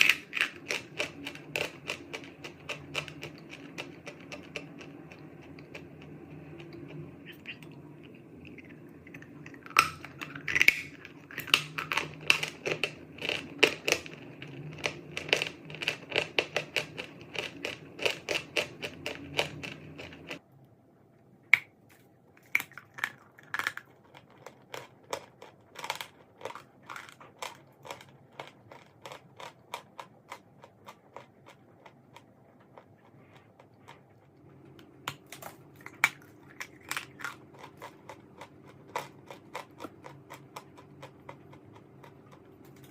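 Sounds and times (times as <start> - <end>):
background hum: 0.0 - 42.9.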